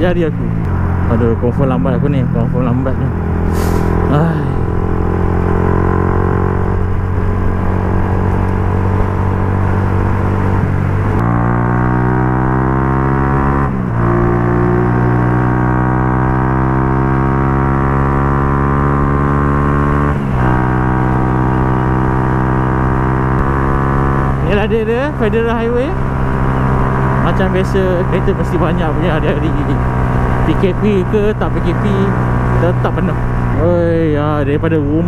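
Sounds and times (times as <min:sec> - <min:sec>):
gear changes: 0:00.0 - 0:35.0
motorcycle engine accelerating: 0:00.0 - 0:35.0.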